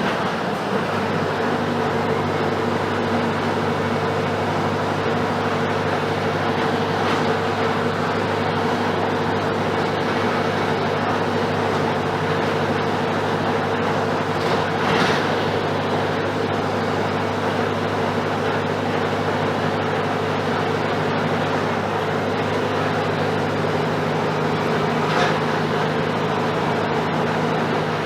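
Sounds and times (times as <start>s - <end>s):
bus diesel engine hum: 0.0s - 28.0s
road noise: 0.0s - 28.0s.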